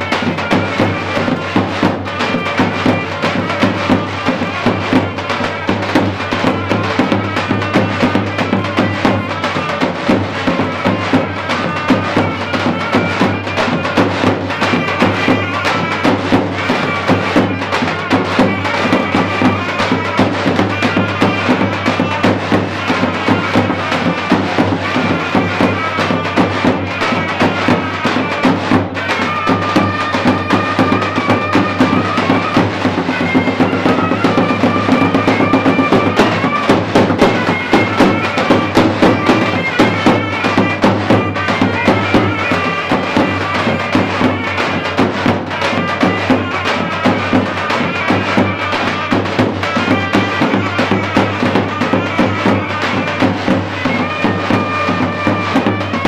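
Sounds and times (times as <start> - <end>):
driving drum beat: 0.0 - 56.0
shrill reedy wind melody: 0.0 - 56.0.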